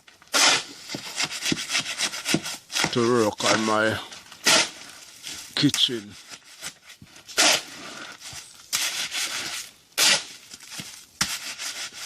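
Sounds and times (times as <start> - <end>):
shovel scraping mortar: 0.3 - 12.0.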